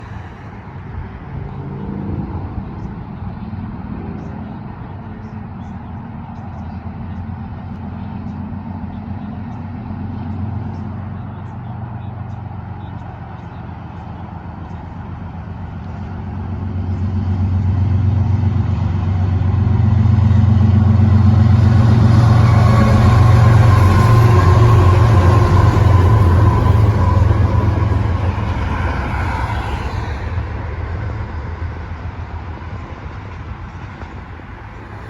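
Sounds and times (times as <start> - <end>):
locomotive engines droning: 0.0 - 35.0.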